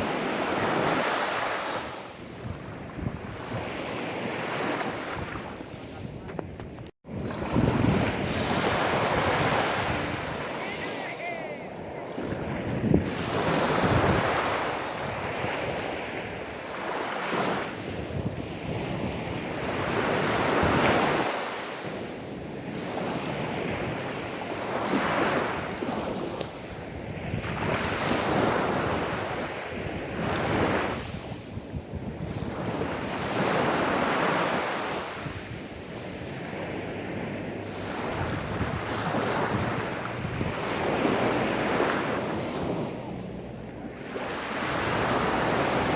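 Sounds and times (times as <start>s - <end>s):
sea waves washing onto sand: 7.1s - 45.9s.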